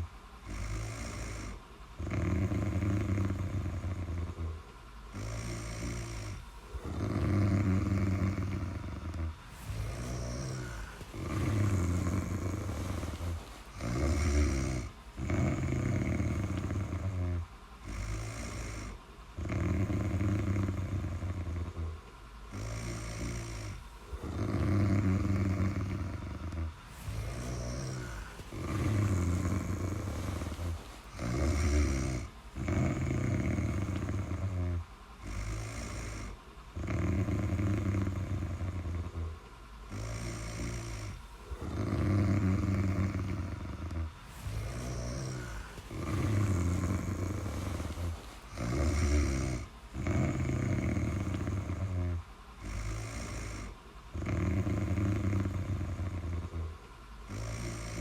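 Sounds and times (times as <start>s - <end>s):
person snoring: 0.0s - 58.0s
soft breaths: 0.0s - 58.0s.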